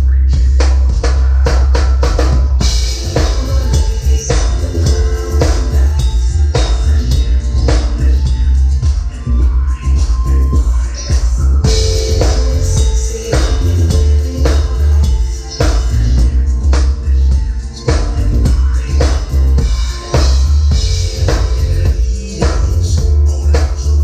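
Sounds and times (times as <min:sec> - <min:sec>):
drum kit beat: 0:00.0 - 0:24.0
heavy bass: 0:00.0 - 0:24.0.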